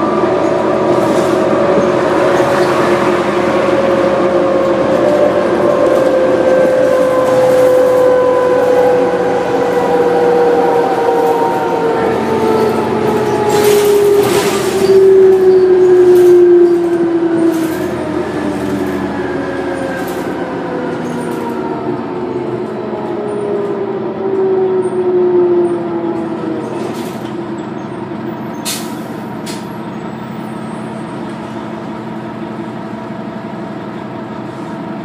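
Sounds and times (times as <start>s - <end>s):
bus drivetrain whine: 0.0s - 35.0s
engine and road drone: 0.0s - 35.0s.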